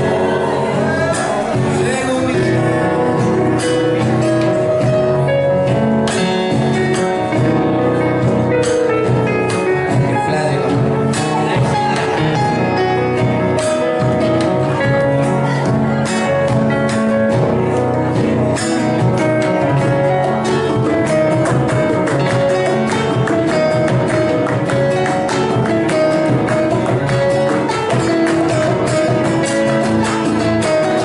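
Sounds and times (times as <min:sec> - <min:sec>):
folk group playing: 0:00.0 - 0:31.0
strummed acoustic guitars: 0:00.0 - 0:31.0.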